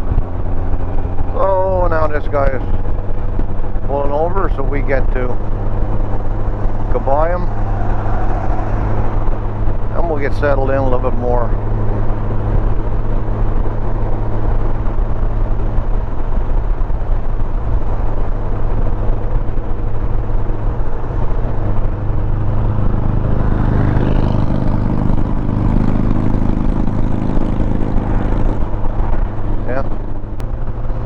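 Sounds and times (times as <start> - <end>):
motorcycle engine hum: 0.0 - 31.0
wind and road noise: 0.0 - 31.0.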